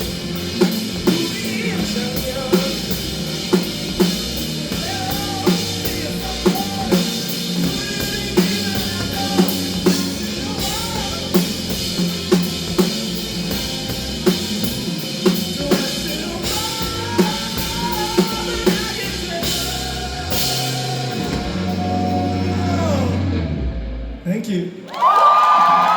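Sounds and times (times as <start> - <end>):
live band playing: 0.0 - 24.2.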